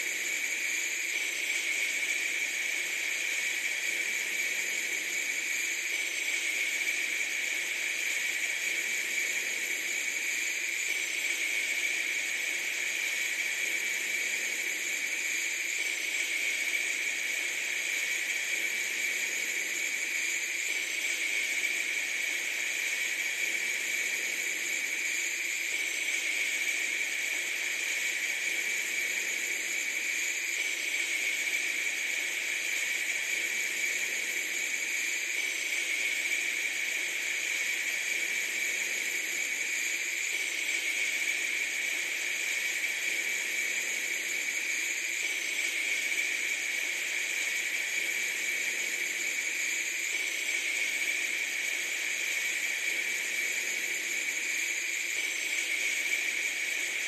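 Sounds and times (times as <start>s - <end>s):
steady thin hiss: 0.0s - 57.0s.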